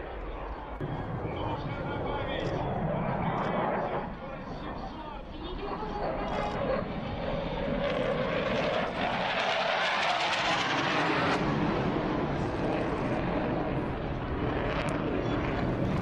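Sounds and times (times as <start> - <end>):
jet fighter roaring past: 0.0 - 16.0.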